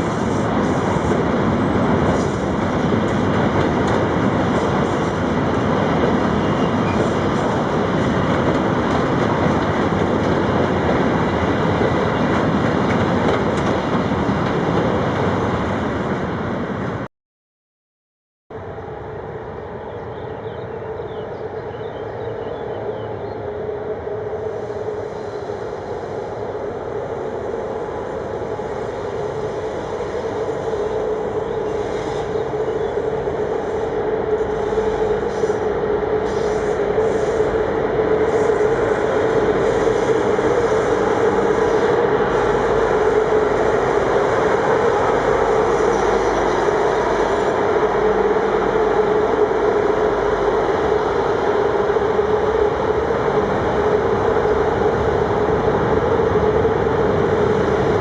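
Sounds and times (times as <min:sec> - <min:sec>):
freight train wheels rumbling: 0:00.0 - 0:17.1, 0:18.5 - 0:58.0.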